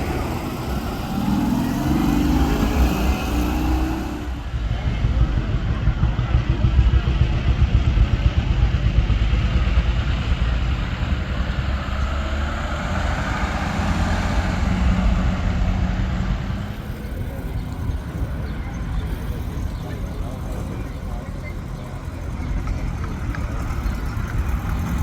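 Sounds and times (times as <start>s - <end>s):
engine with pulsing exhaust: 0.0s - 25.0s.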